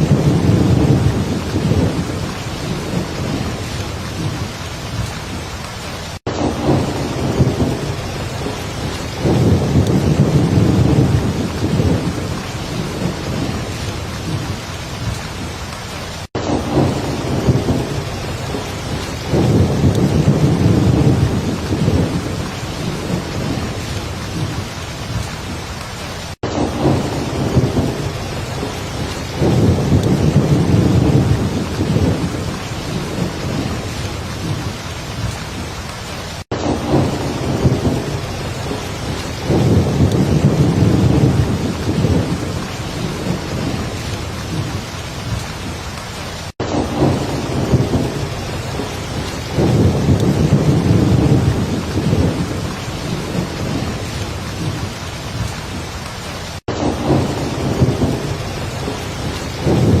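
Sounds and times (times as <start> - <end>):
rolling thunder: 0.0 - 25.8, 26.4 - 46.0, 46.6 - 60.0
heavy rain hissing: 0.0 - 60.0.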